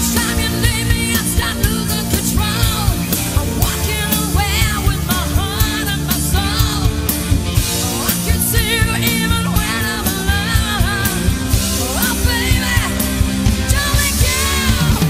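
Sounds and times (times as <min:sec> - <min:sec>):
drum kit beat: 0:00.0 - 0:15.0
person singing with vibrato: 0:00.0 - 0:15.0
rock band playing: 0:00.0 - 0:15.0.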